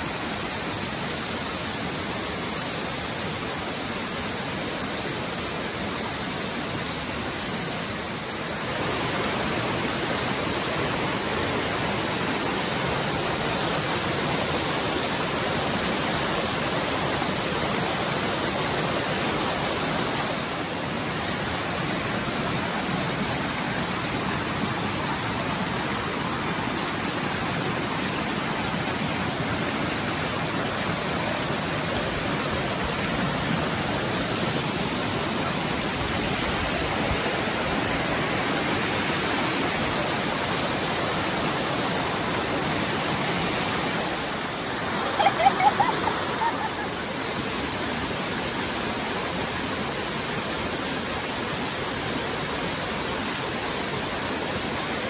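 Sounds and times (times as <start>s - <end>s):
shallow stream running: 0.0s - 55.0s
waterfall pouring into pool: 0.0s - 55.0s.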